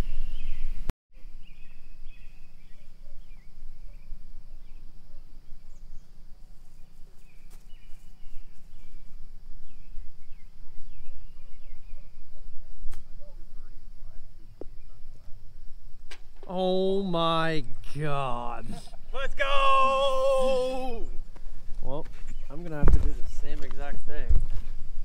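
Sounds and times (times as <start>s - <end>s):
small birds chirping: 0.0s - 15.4s, 16.5s - 24.3s.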